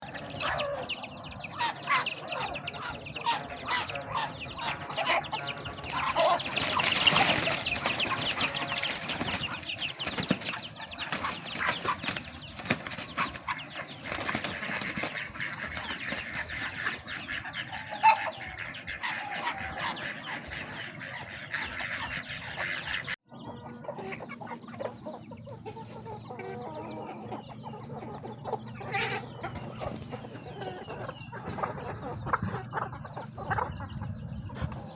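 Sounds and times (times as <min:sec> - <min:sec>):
chickens clucking softly: 0:00.0 - 0:34.9
chickens pecking feed: 0:00.0 - 0:34.9.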